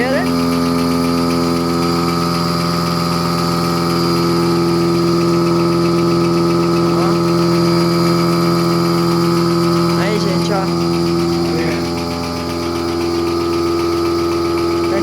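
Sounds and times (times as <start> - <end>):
motor humming steadily: 0.0 - 15.0.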